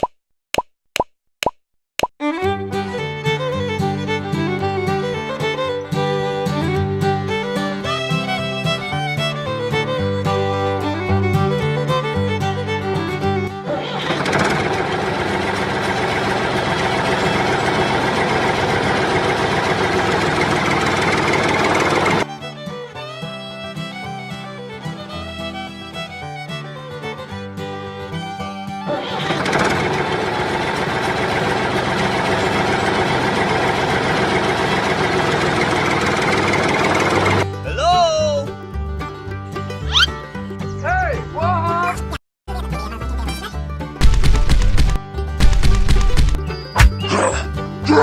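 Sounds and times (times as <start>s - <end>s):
small engine running steadily: 2.6s - 37.6s, 44.0s - 48.0s.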